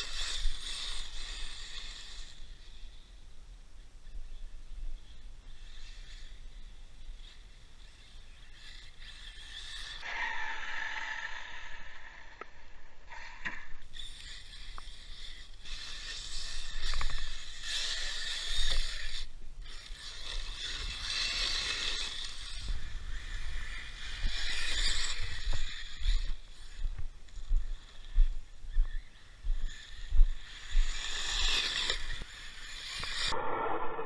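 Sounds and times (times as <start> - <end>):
rc truck motor whine: 0.0 - 34.0.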